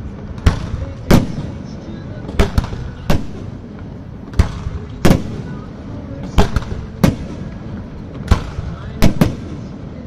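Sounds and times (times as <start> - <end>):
continuous low rumble: 0.0 - 10.0.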